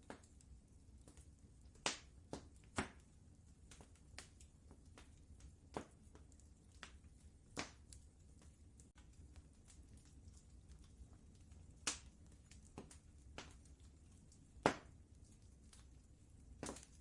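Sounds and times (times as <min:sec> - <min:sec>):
faint low rumble: 0:00.0 - 0:17.0
wood fire crackling: 0:00.0 - 0:17.0.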